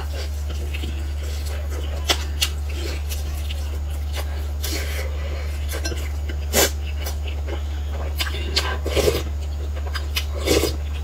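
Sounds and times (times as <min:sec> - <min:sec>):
biting and chewing crisp food: 0:00.0 - 0:11.0.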